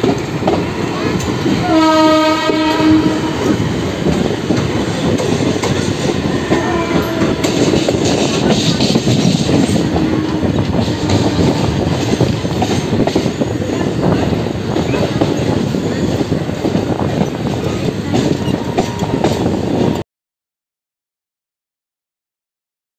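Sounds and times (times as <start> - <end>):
train rumbling: 0.0 - 20.0
train wheels clattering on rails: 0.0 - 20.0.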